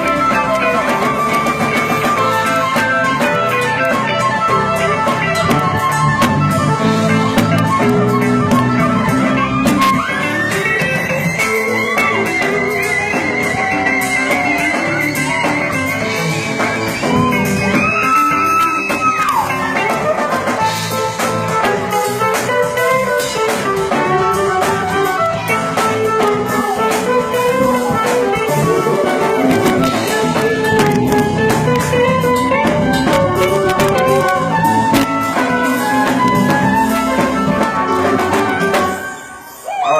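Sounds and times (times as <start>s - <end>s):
electric guitar lead lines: 0.0s - 39.5s
drum kit: 0.0s - 39.8s
live band playing soul: 0.0s - 39.9s.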